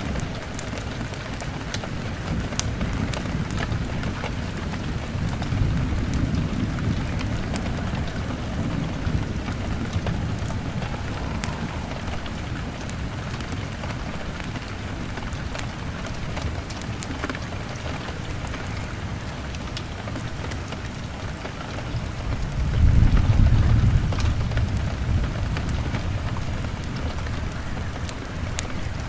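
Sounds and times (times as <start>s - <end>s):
log fire crackling: 0.0s - 29.0s
low rumble of thunder: 0.0s - 29.0s
rain pattering on window glass: 0.0s - 29.0s.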